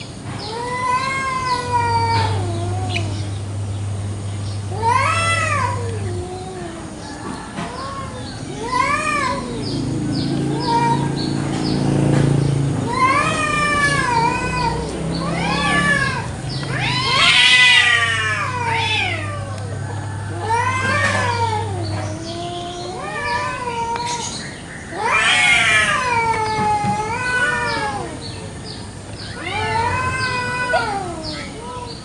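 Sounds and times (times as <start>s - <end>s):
cats yowling: 0.0s - 3.7s, 4.6s - 32.0s
cat growling: 1.0s - 3.3s, 4.7s - 7.0s, 7.7s - 11.5s, 12.4s - 24.0s, 24.9s - 28.2s, 29.3s - 31.7s.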